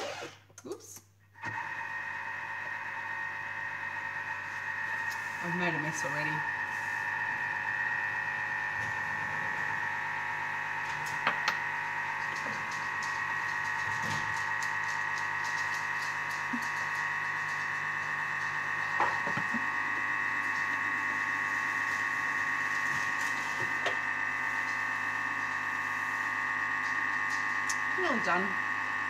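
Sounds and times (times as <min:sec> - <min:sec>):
food processor motor whine: 0:00.0 - 0:00.4, 0:01.4 - 0:29.0.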